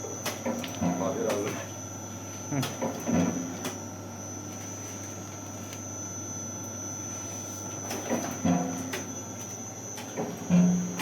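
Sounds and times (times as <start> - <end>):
electric machine humming and whining: 0.0 - 11.0.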